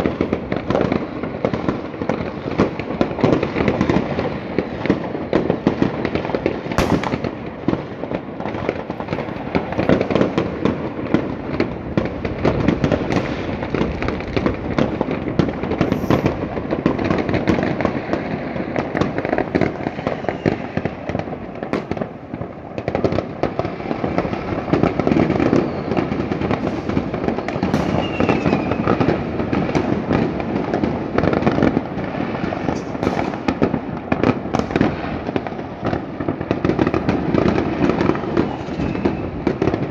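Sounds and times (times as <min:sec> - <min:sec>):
fireworks crackling: 0:00.0 - 0:39.9
loud firework bangs: 0:00.0 - 0:39.9.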